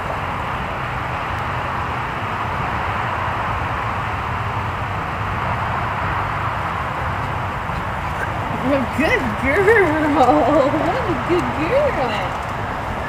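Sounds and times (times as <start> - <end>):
rushing hiss with low rumble: 0.0 - 13.0.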